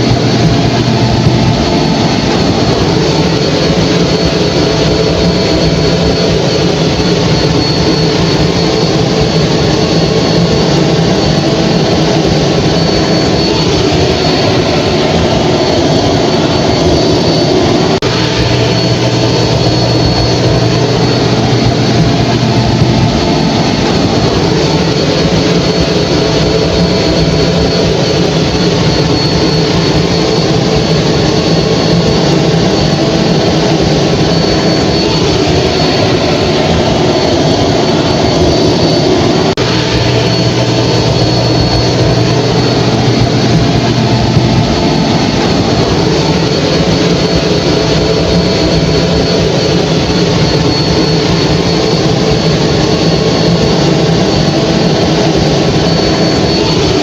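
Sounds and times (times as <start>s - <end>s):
hair dryer blowing: 0.0s - 57.0s
high-pitched whine: 0.0s - 57.0s.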